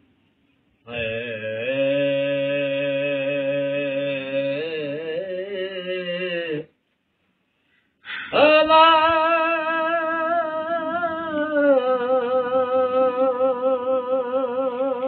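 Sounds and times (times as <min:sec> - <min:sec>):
man singing a long note: 0:00.9 - 0:06.7, 0:08.3 - 0:15.0.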